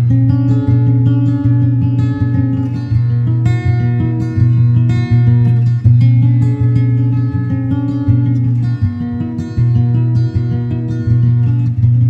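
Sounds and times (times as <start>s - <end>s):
acoustic guitar plucked notes: 0.0s - 12.0s.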